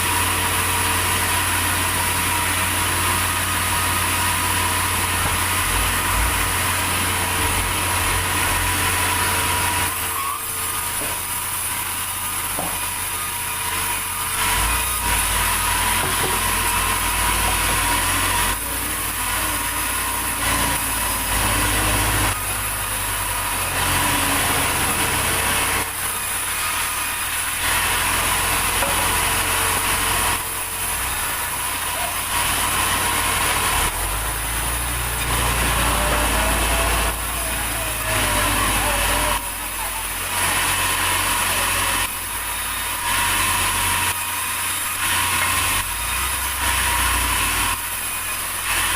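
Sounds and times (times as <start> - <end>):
mill engine drone: 0.0 - 48.9
saw rasping through log: 0.0 - 48.9.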